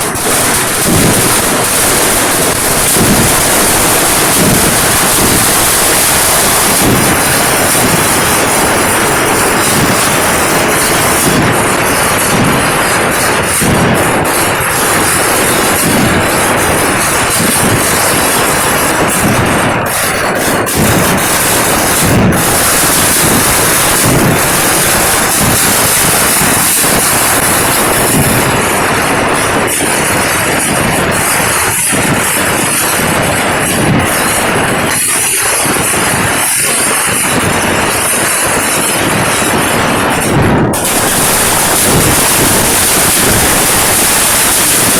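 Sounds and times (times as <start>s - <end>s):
firecrackers crackling: 0.0s - 44.9s
sharp firework bangs: 0.0s - 44.9s.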